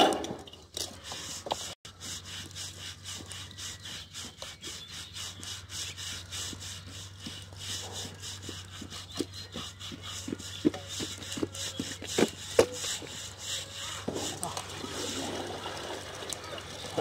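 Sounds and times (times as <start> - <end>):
rasping scraping strokes: 0.0 - 16.5.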